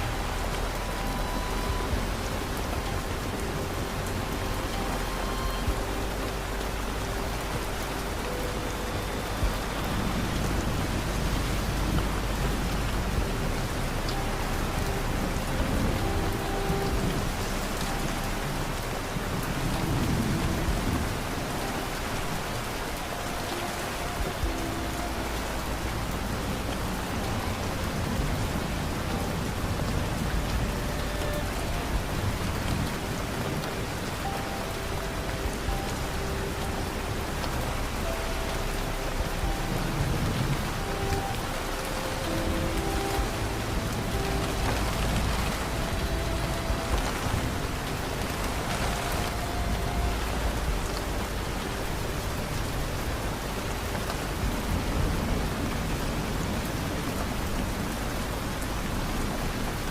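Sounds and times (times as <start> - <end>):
distant thunder rumbling: 0.0 - 59.9
soft sustained music notes: 0.0 - 59.9
steady rain: 0.0 - 59.9.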